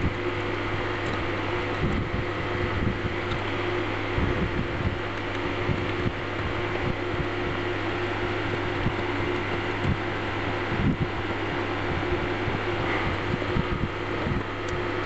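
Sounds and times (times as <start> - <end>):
fan-like hum and hiss: 0.0 - 15.0.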